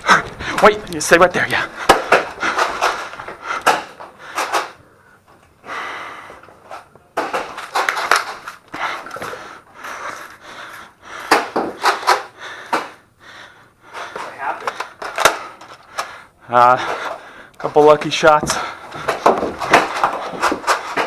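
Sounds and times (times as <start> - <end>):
person breathing hard: 0.0 - 0.8, 1.5 - 6.9, 8.7 - 17.6, 18.4 - 21.0.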